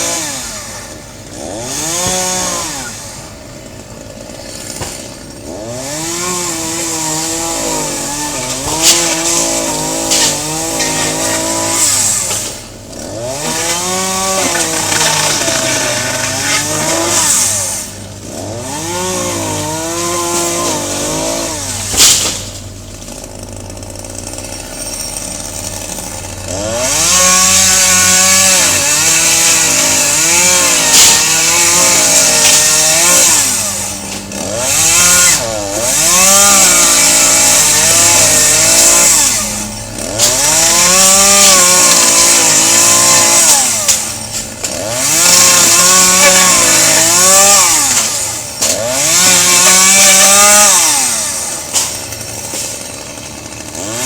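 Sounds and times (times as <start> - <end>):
chainsaw cutting tree limbs: 0.0 - 54.0
sharp wood crack: 4.0 - 18.4, 20.0 - 23.4, 27.0 - 54.0.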